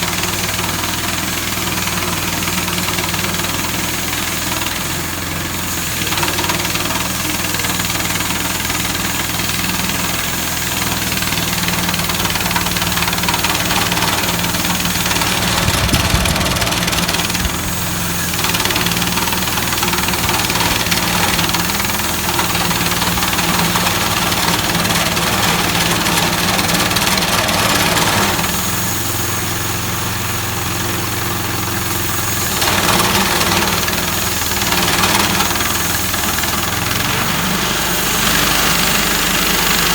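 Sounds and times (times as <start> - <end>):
gasoline engine running under load: 0.0 - 39.9
saw blade cutting through log: 0.4 - 39.9.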